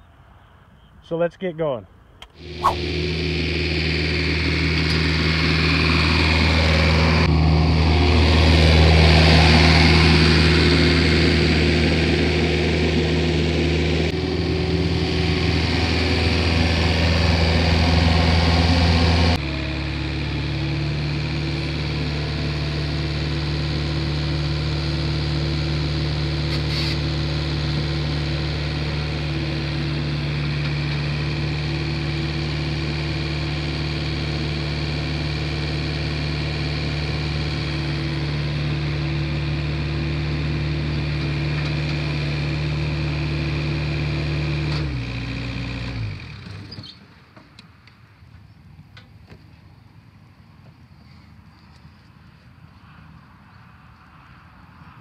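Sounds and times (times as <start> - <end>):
loader engine running: 2.3 - 47.3.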